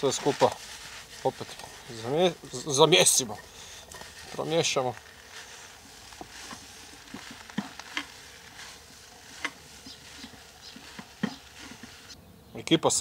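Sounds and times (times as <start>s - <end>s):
utensil scraping a wok: 0.0s - 12.2s.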